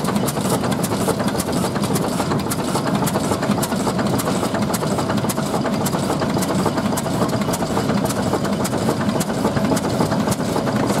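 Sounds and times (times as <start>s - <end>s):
stationary engine running: 0.0s - 11.0s.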